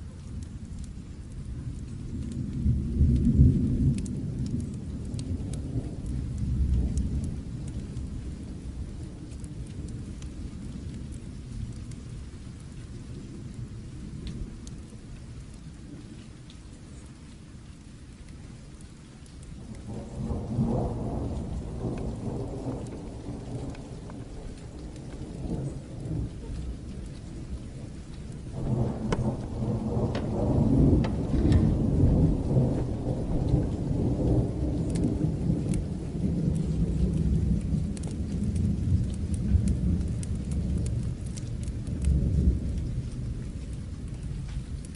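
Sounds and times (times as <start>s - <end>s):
faint crackles: 0.0s - 44.9s
steady rain: 0.0s - 44.9s
rolling thunder: 1.4s - 15.3s, 19.6s - 44.9s.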